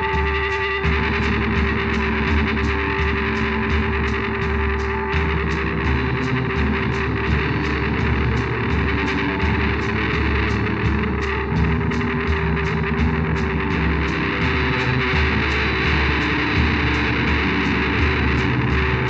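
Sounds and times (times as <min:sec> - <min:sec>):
guitar playing held chords: 0:00.0 - 0:19.0
high ticking beat: 0:00.0 - 0:19.0.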